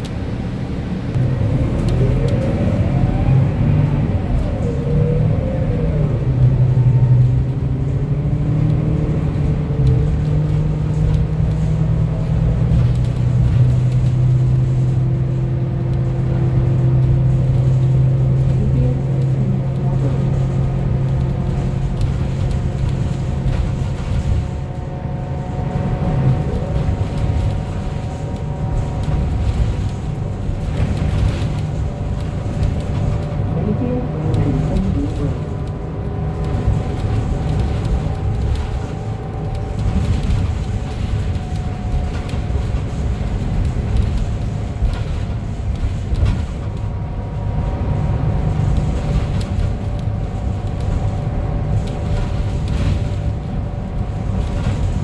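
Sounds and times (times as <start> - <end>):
bus engine and road rumble: 0.0 - 55.0
bus engine whine: 0.0 - 55.0.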